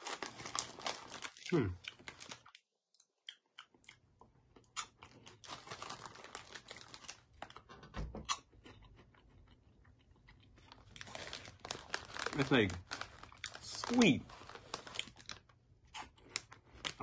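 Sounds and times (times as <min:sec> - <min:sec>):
crunchy snack being chewed: 0:00.0 - 0:07.6, 0:08.3 - 0:17.0.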